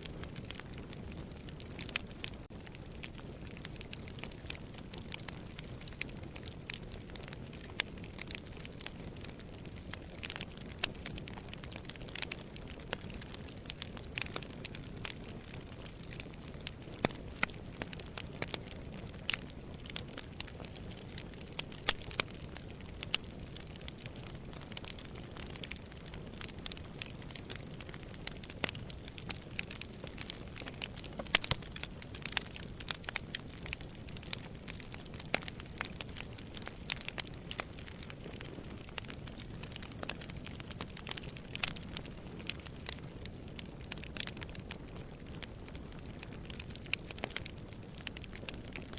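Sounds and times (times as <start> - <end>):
fire crackling and popping: 0.0 - 48.9.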